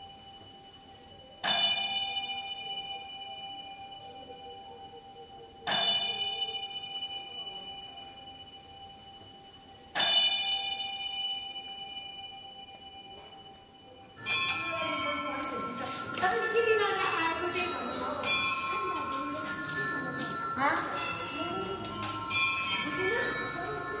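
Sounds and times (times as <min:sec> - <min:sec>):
prayer wheel bell ringing: 0:00.0 - 0:24.0.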